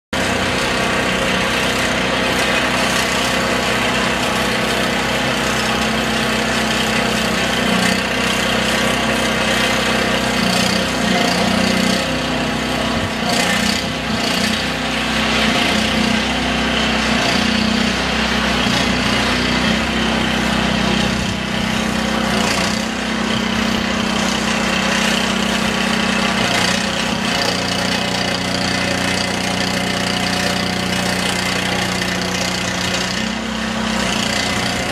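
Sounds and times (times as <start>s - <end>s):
engine running steadily: 0.1s - 34.9s.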